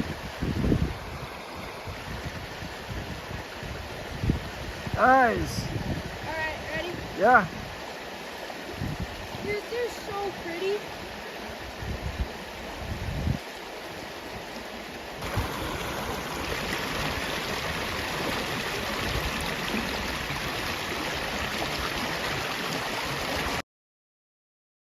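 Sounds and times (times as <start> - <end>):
creek water rushing: 0.0 - 23.6.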